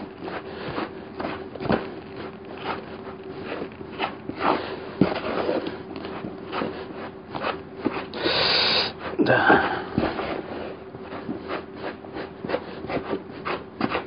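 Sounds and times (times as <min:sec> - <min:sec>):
faint steady hum: 0:00.0 - 0:14.0
hands kneading wet mixture: 0:00.0 - 0:14.0.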